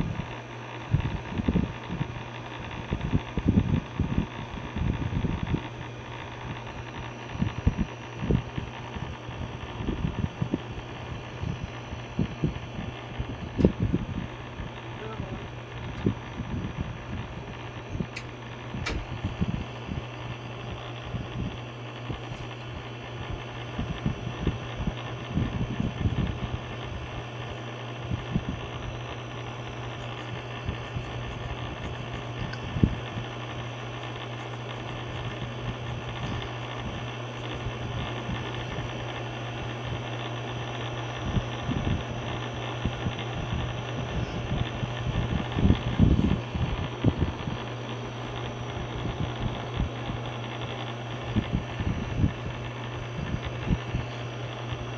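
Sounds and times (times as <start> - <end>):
fan and air conditioner hum: 0.0 - 54.9.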